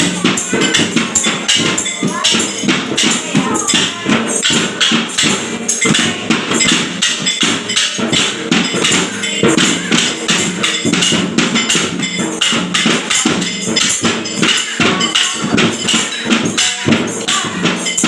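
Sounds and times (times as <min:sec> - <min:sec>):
music with quick percussive beat: 0:00.0 - 0:18.0.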